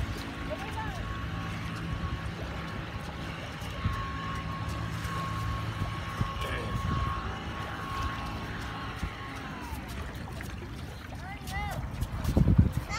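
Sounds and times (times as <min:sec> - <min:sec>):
engine drone with high whine: 0:00.0 - 0:12.9.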